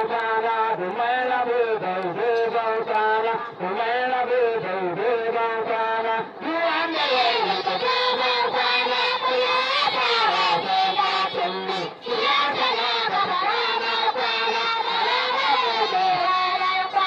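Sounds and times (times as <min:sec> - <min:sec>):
voices singing a song: 0:00.0 - 0:17.0.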